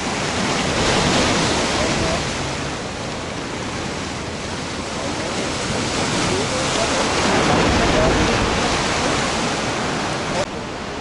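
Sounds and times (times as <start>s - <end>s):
waves breaking on rocky shore: 0.0s - 11.0s.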